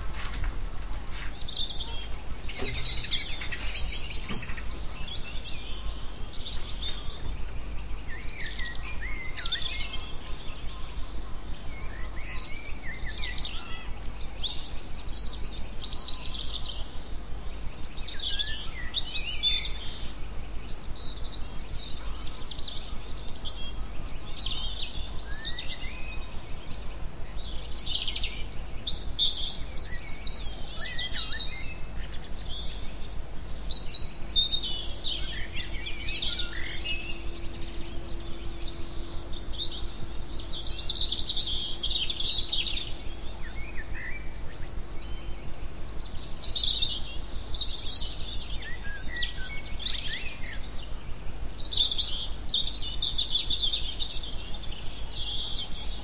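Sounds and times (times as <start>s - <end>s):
songbirds chirping and singing: 0.0s - 56.0s
steady low hum: 0.0s - 56.0s.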